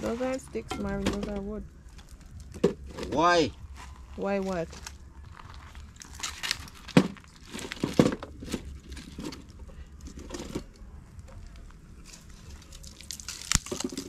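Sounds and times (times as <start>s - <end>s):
firewood crackling and rustling: 0.0s - 14.0s.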